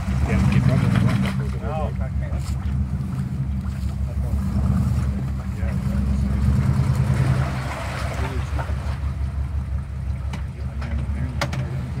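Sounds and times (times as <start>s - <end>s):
truck engine revving under load: 0.0s - 12.0s.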